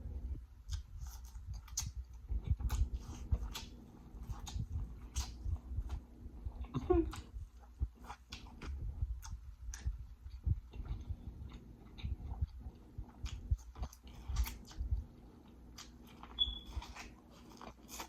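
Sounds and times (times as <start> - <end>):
person chewing food: 0.2 - 18.0.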